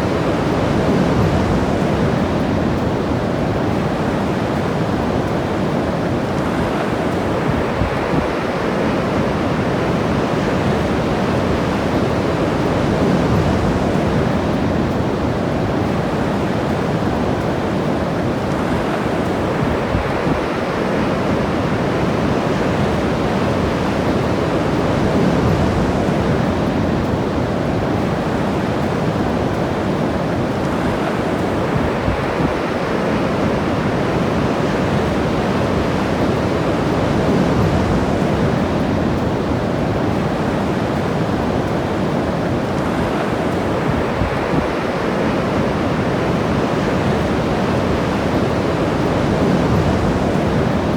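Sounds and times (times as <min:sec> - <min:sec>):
ocean surf washing onto beach: 0:00.0 - 0:50.9.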